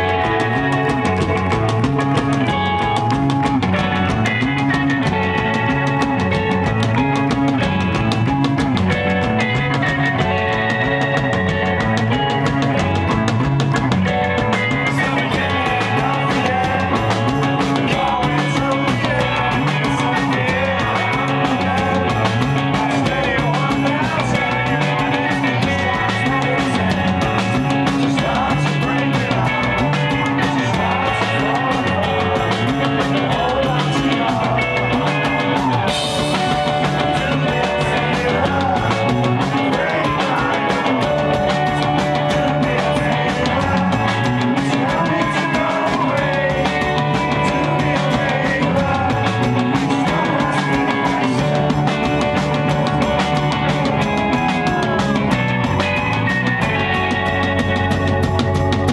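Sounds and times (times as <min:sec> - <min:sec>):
bass guitar: 0:00.0 - 0:58.9
drum kit: 0:00.0 - 0:58.9
electric guitar riff: 0:00.0 - 0:58.9.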